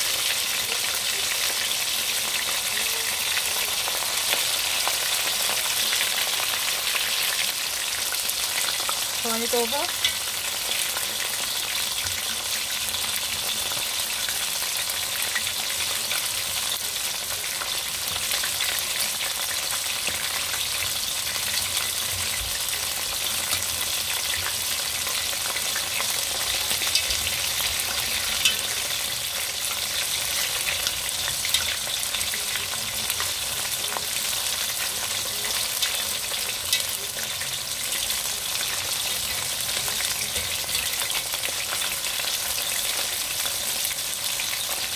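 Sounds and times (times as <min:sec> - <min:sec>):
chicken wings deep-frying in oil: 0:00.0 - 0:44.9.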